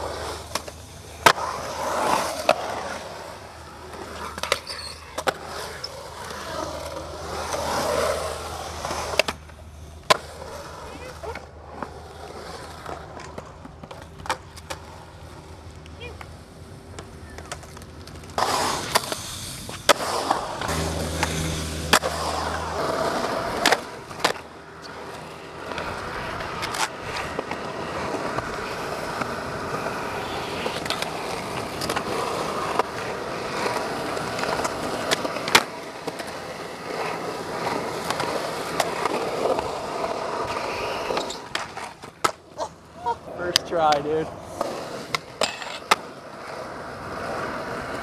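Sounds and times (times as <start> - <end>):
skateboard clacking on concrete: 0.0 - 48.0
skateboard wheels rolling on concrete: 0.0 - 48.0.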